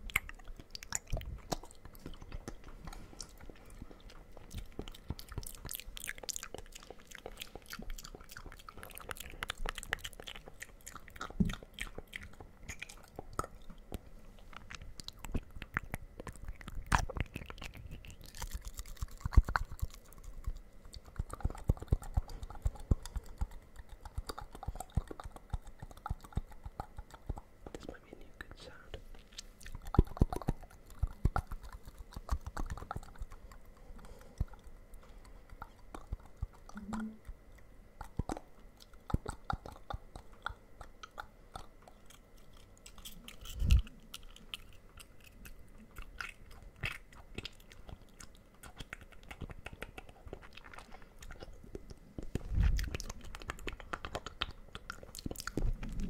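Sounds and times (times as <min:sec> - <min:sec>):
wet mouth clicks and smacks: 0:00.0 - 0:28.0, 0:29.1 - 0:56.0.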